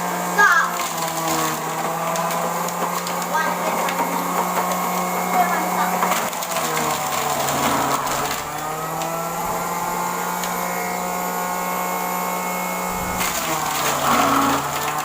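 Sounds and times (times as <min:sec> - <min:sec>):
electric juicer motor whining: 0:00.0 - 0:15.0
juicer grinding carrot pieces: 0:00.0 - 0:15.0.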